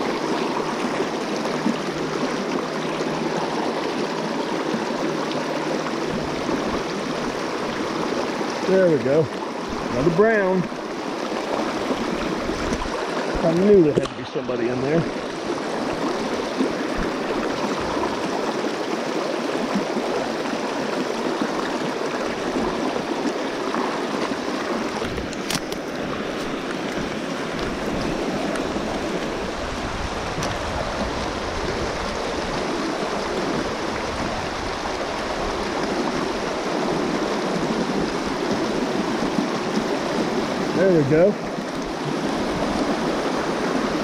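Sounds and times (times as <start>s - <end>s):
stream rushing over stones: 0.0s - 44.0s.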